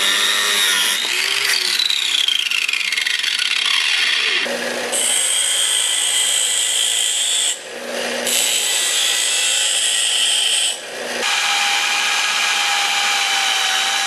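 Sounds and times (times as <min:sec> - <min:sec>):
bench grinder grinding steel: 0:00.0 - 0:14.0
electric drill boring through steel: 0:00.0 - 0:14.0.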